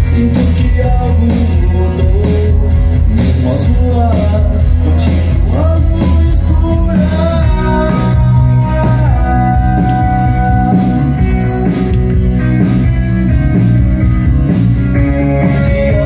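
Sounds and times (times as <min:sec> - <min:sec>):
rock song through speakers: 0:00.0 - 0:16.0.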